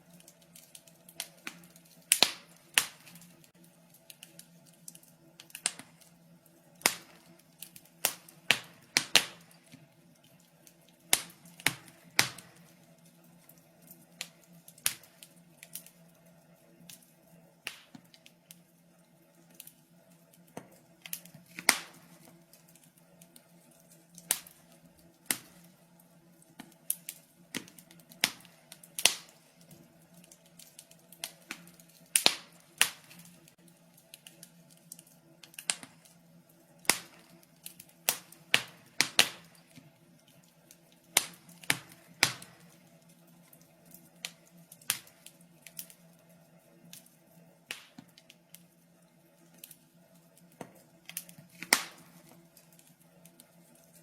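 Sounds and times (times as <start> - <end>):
faint steady hum: 0.0 - 54.0
wood fire crackling and popping: 0.0 - 54.0.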